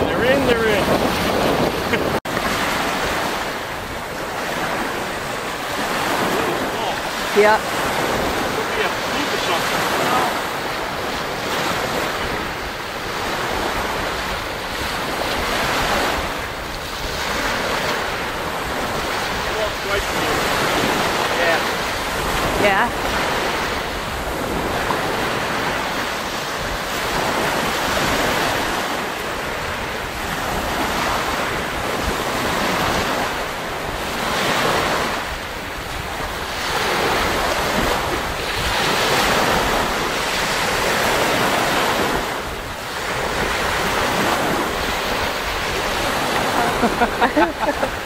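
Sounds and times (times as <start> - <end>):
waves breaking on pebbly shore: 0.0 - 48.0
wind buffeting microphone: 0.0 - 48.0.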